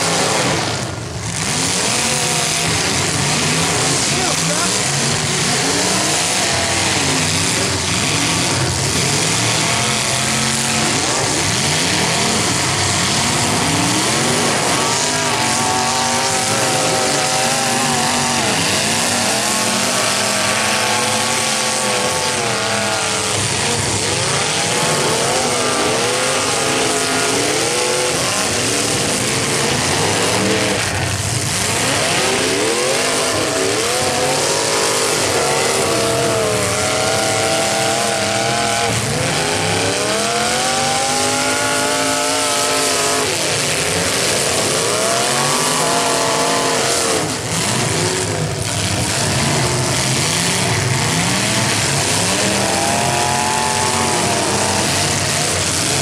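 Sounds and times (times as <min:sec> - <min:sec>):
car engines revving: 0:00.0 - 0:56.0
loud continuous rumble: 0:00.0 - 0:56.0.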